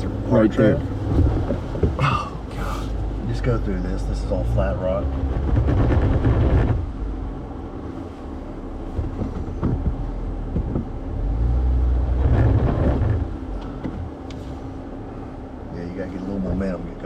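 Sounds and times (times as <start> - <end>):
engine pulling under throttle: 0.0 - 17.0.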